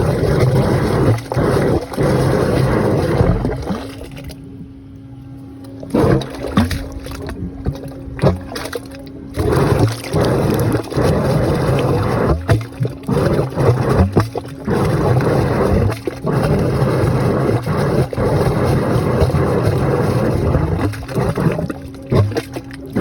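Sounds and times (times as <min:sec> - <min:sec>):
air rushing and gurgling through water: 0:00.0 - 0:04.8, 0:05.8 - 0:23.0.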